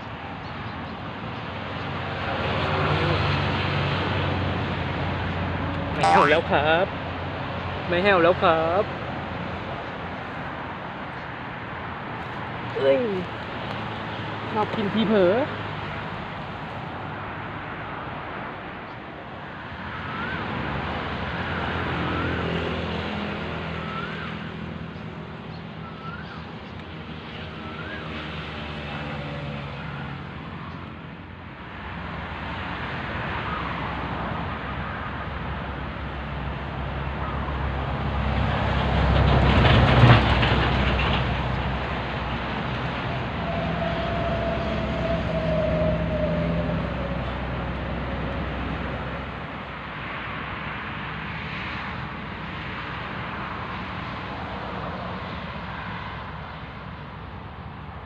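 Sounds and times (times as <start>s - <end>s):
distant traffic rumble: 0.0s - 58.0s.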